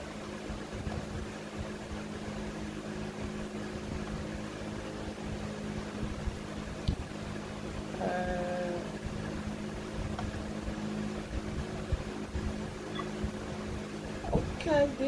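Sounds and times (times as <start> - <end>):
appliance electrical hum: 0.0 - 15.0.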